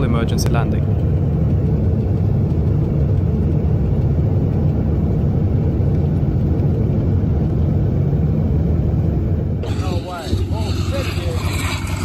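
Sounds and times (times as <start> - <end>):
airliner low rumble: 0.0 - 12.0.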